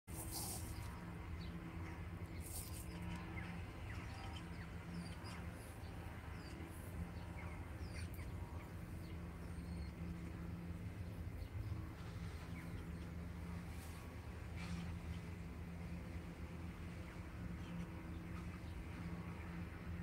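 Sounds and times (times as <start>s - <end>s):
small birds chirping: 0.1s - 20.0s
steady low hum: 0.1s - 20.0s.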